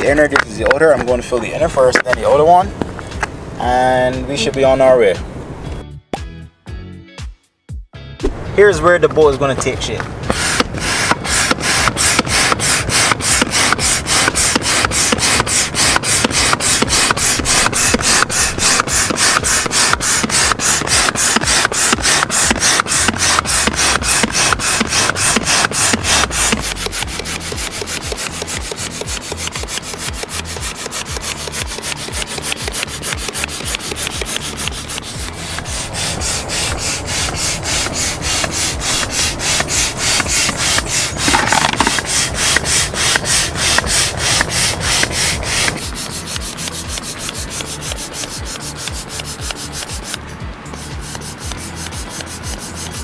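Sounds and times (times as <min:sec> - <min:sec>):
hand air pump strokes: 0:00.0 - 0:02.6, 0:09.6 - 0:53.0.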